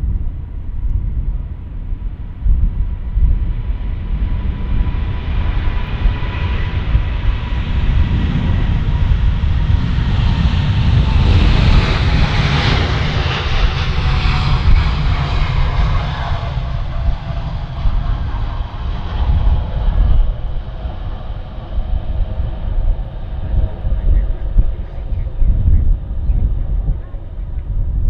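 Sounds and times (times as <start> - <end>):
jet airliner engines passing: 0.0 - 28.0
jet engine whine falling in pitch: 1.5 - 28.0.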